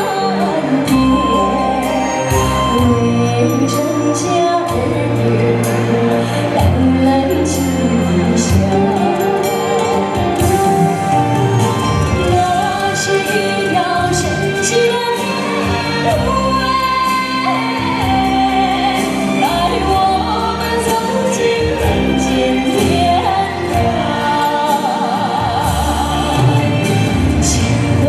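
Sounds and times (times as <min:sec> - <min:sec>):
instrumental backing music: 0:00.0 - 0:28.0
woman singing into a microphone: 0:00.0 - 0:28.0.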